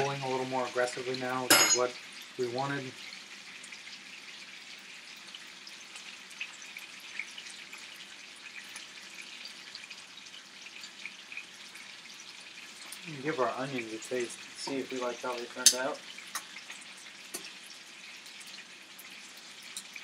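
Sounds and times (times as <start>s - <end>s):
chicken sizzling in a pan: 0.0s - 20.0s.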